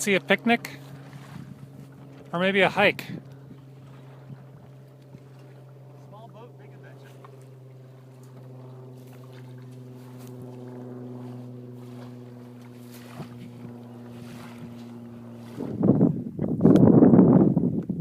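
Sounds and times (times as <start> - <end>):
boat engine hum: 0.0 - 18.0
water along boat hull: 0.0 - 18.0.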